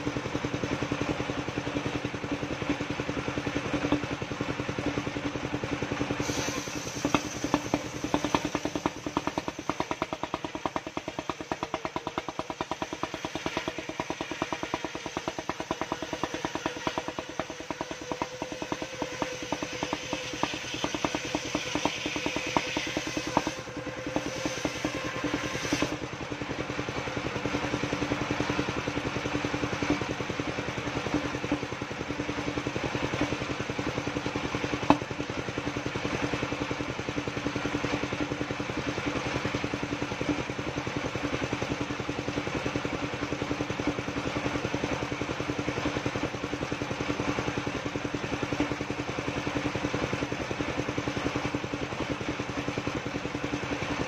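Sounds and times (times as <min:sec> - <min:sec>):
sawmill engine chugging: 0:00.0 - 0:54.0.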